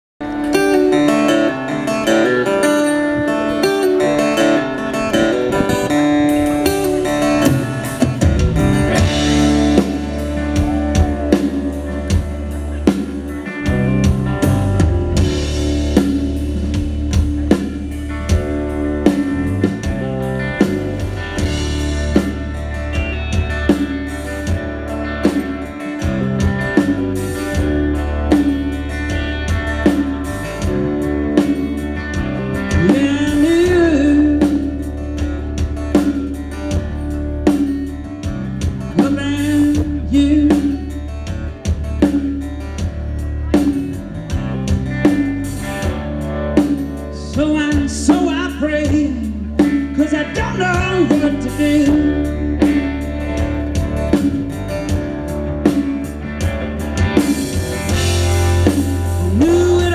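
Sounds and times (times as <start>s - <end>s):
blues-rock band playing: 0.2s - 59.9s.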